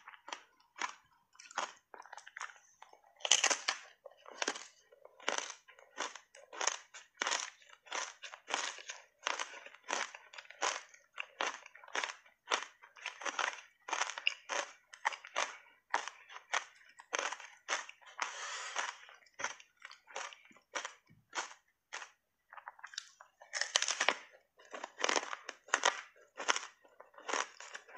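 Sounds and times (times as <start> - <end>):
ice chips being chewed: 0.0 - 27.9.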